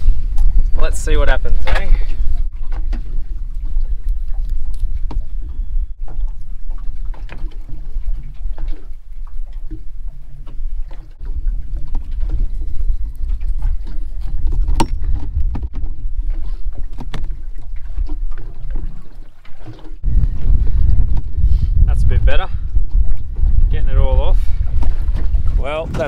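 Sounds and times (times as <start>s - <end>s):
wind and water rumble: 0.0s - 26.0s.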